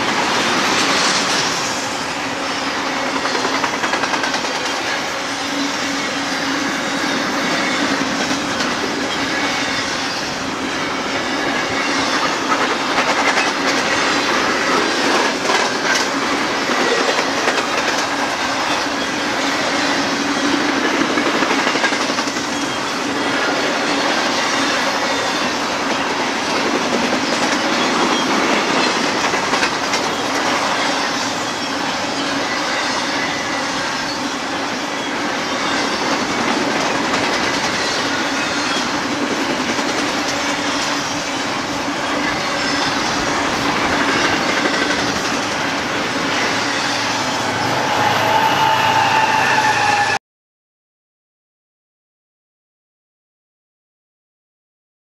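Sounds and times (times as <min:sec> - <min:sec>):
train wheels on rail clickety-clack: 0:00.0 - 0:50.1.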